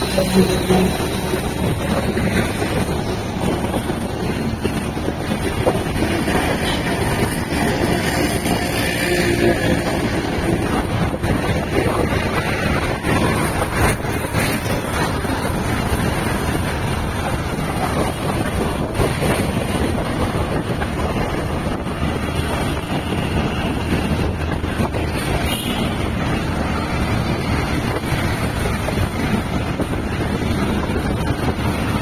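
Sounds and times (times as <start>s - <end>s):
vehicle running and tyre noise: 0.0s - 32.0s
wind rushing over microphone: 0.0s - 32.0s.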